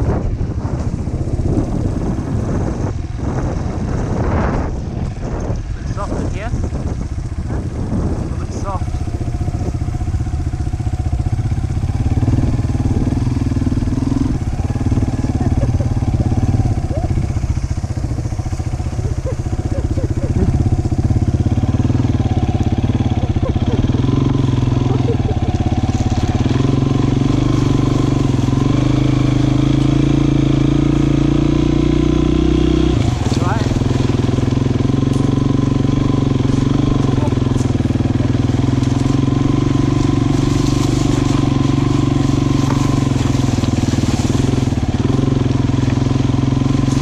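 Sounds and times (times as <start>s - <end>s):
dirt bike engine running: 0.0s - 47.0s.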